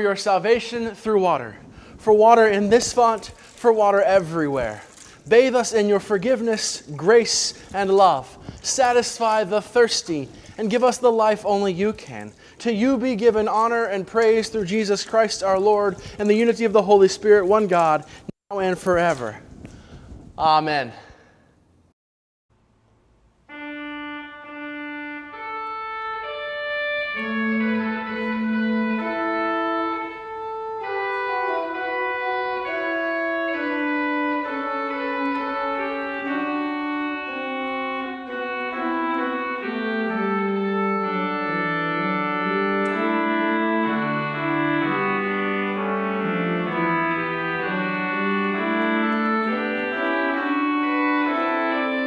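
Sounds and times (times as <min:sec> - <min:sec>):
organ playing chords: 0:00.0 - 0:18.0, 0:23.4 - 0:52.0.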